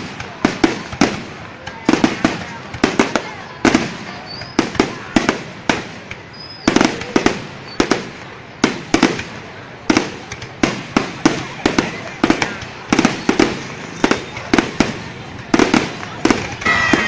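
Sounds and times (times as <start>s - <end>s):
fireworks bursting with bangs: 0.0s - 17.0s.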